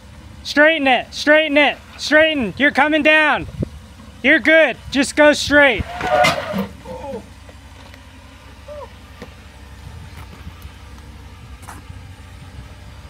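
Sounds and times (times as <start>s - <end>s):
vehicle engine running low: 0.0s - 13.0s.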